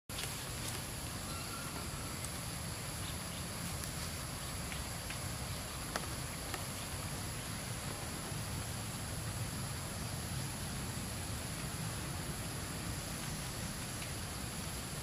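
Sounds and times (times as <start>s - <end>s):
insect chorus: 0.1s - 15.0s.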